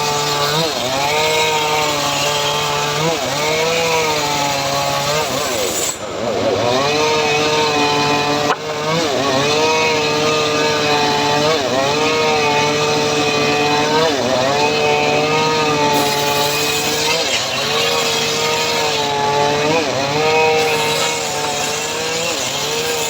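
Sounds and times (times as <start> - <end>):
engine-driven circular saw cutting wood: 0.0 - 23.0.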